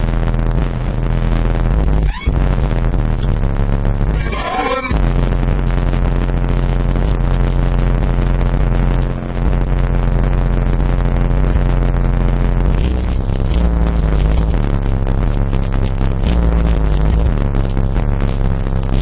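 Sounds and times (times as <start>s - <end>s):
bass-heavy music through subwoofer: 0.0s - 19.0s.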